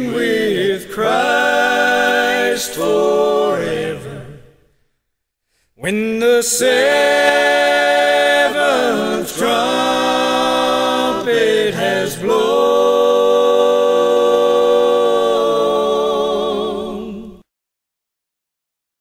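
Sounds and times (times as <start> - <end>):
unaccompanied gospel vocal harmony: 0.0 - 4.6, 5.8 - 17.4.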